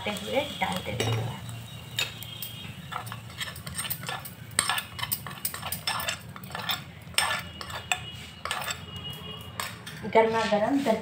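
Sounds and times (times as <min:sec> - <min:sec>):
metal spoon clinking on ladle: 0:00.8 - 0:10.2.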